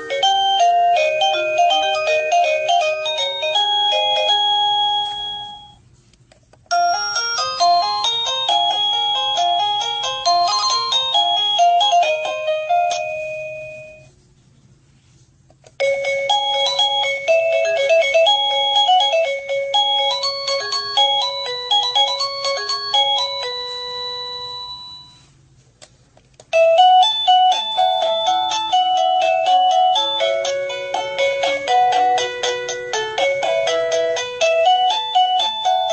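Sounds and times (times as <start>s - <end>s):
doorbell chime melodies: 0.0s - 5.8s, 6.7s - 14.1s, 15.8s - 25.3s, 26.5s - 35.9s.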